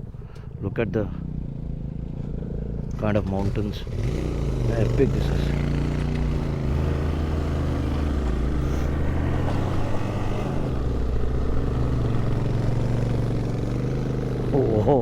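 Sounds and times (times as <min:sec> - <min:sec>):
road and wind noise: 0:00.0 - 0:15.0
motorcycle engine running: 0:01.1 - 0:15.0.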